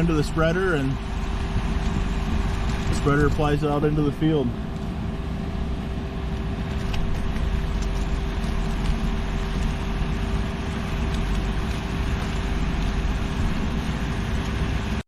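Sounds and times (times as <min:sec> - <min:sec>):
constant hum: 0:00.0 - 0:15.0
vehicle engine running: 0:00.0 - 0:15.0.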